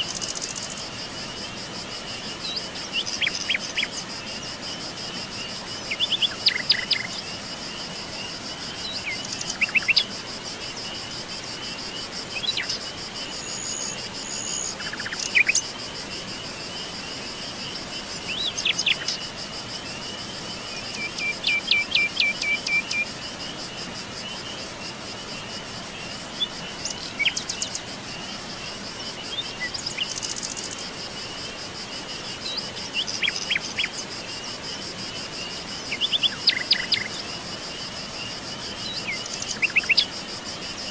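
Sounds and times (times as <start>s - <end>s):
insect trill: 0.0s - 40.9s
running water hiss: 0.0s - 40.9s.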